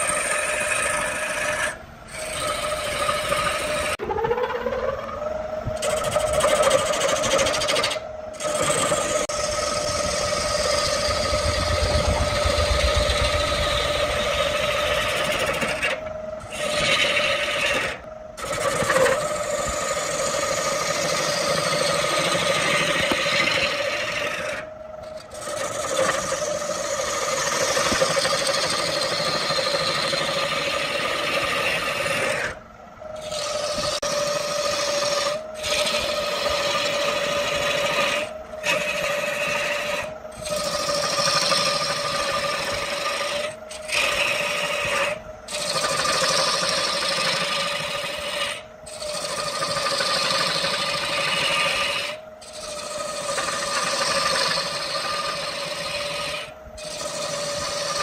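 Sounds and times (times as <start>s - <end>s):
lathe motor hum: 0.0s - 58.0s
tool scraping spinning wood: 0.0s - 58.0s.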